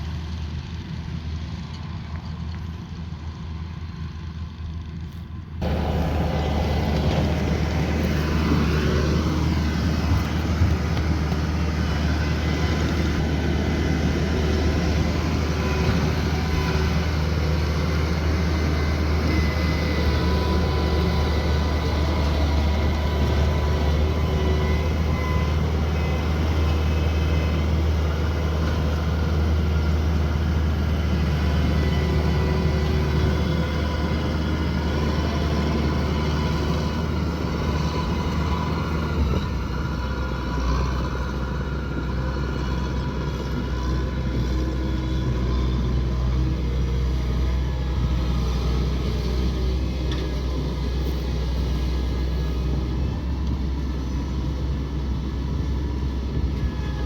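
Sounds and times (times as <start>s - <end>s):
combine harvester engine drone: 0.0s - 57.0s
threshing machinery noise: 5.6s - 57.0s.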